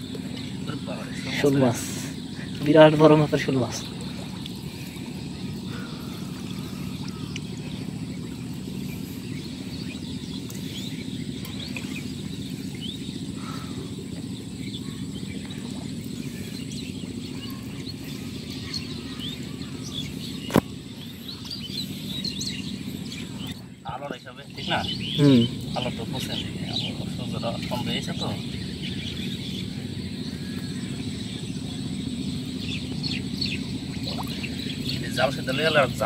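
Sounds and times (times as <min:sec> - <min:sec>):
faint bird chirps: 0:00.0 - 0:36.0.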